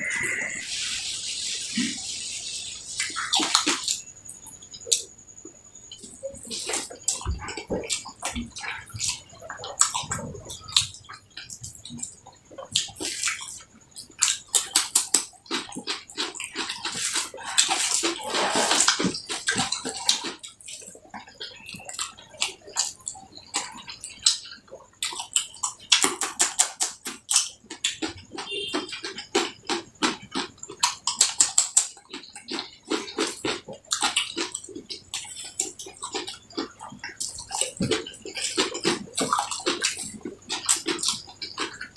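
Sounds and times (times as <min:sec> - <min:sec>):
person chewing food: 0:02.9 - 0:41.9.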